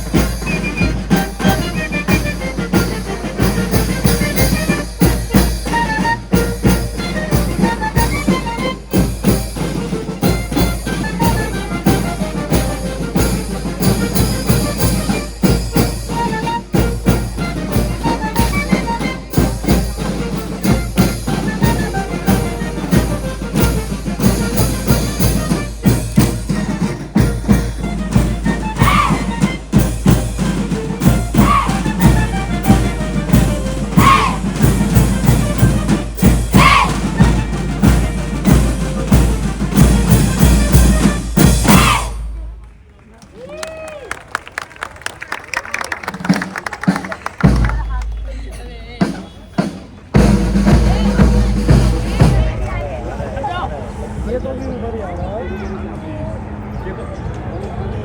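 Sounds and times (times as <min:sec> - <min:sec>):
music with drum beat: 0:00.0 - 0:42.6, 0:46.2 - 0:52.8.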